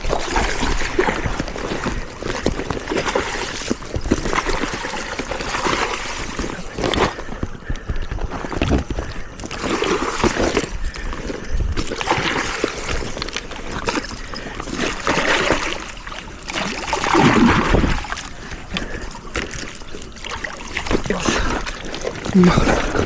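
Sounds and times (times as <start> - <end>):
fish splashing in water: 0.0 - 23.0.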